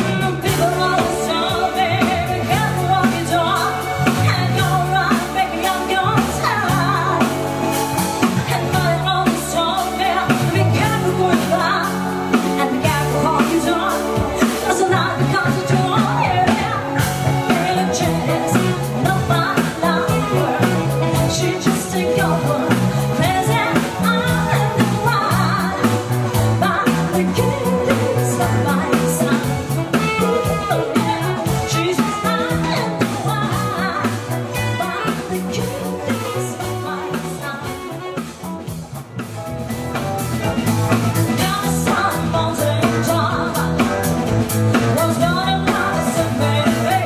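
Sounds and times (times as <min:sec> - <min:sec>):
woman singing: 0:00.0 - 0:39.2, 0:40.5 - 0:47.0
bass line: 0:00.0 - 0:47.0
drum kit: 0:00.0 - 0:47.0
electric guitar: 0:00.0 - 0:47.0.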